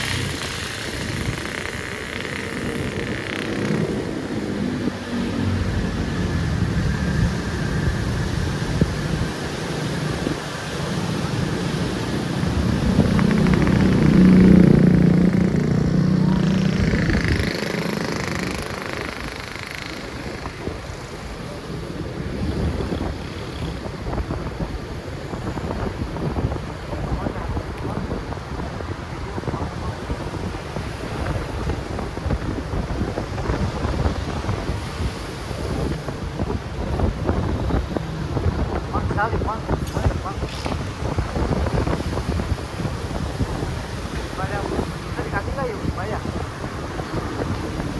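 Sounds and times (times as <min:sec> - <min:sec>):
road noise: 0:00.0 - 0:47.9
vehicle engine noise: 0:00.0 - 0:47.9
wind rushing over microphone: 0:00.0 - 0:47.9.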